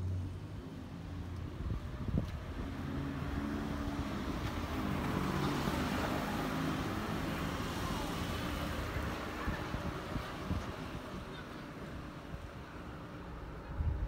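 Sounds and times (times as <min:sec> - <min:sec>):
car engine and tyres on street: 0:00.0 - 0:14.0.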